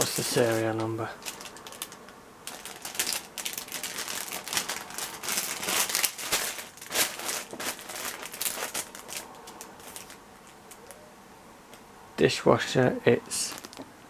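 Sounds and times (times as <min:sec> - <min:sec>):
plastic packaging crinkling: 0:00.0 - 0:11.0, 0:13.4 - 0:13.9.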